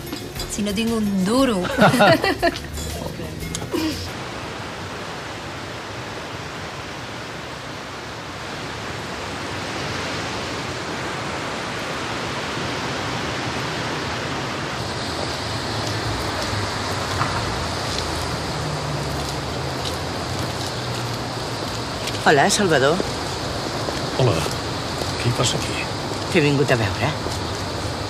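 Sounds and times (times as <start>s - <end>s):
rushing outdoor background hiss: 0.0s - 28.0s.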